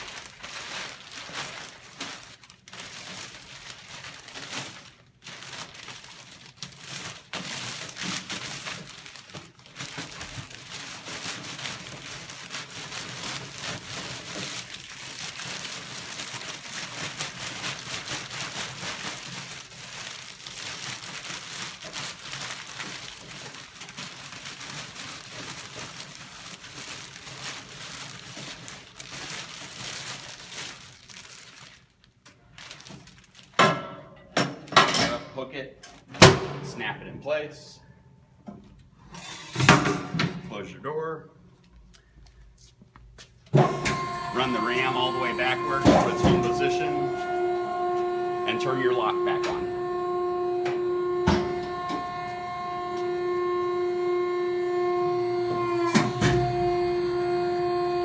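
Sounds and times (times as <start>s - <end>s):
plastic bag crinkling and rustling: 0.0s - 33.6s, 41.6s - 58.0s.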